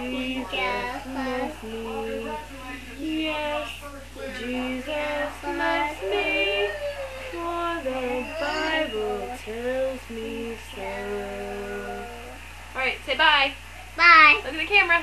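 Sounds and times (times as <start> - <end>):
girl singing: 0.0 - 12.4
woman singing along: 0.0 - 12.4.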